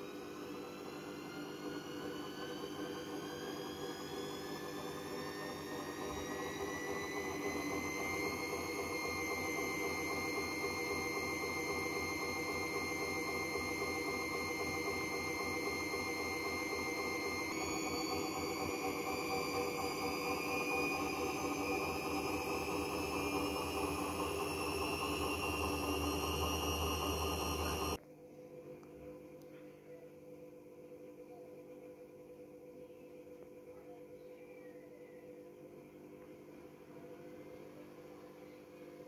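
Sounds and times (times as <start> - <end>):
washing machine motor whine: 0.0 - 29.4, 30.1 - 39.0.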